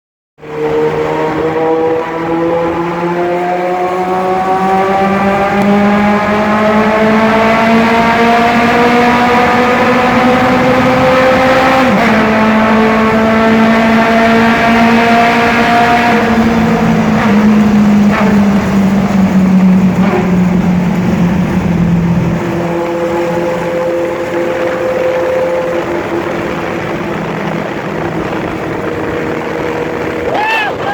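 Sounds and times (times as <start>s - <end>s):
car engine revving in a tunnel: 0.4s - 30.7s.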